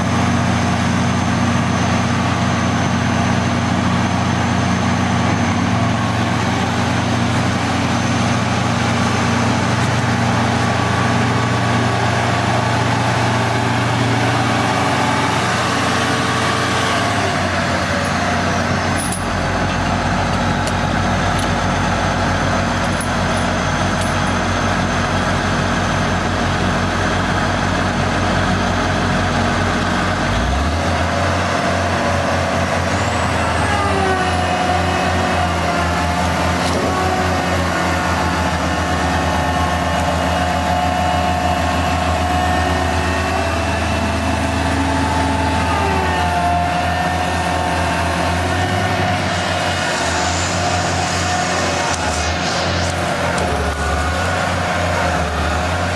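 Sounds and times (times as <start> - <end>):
heavy vehicle engine running: 0.0 - 55.9.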